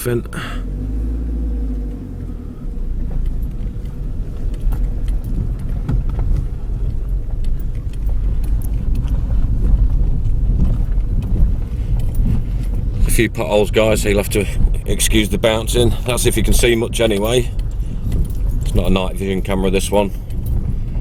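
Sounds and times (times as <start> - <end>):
car knocks and rattles: 0.0 - 21.0
car tyres and engine rumble: 0.0 - 21.0.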